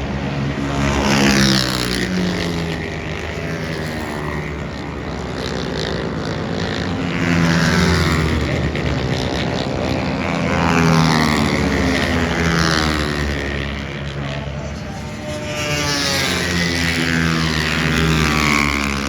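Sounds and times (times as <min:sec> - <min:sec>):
racing engines passing by: 0:00.0 - 0:19.0.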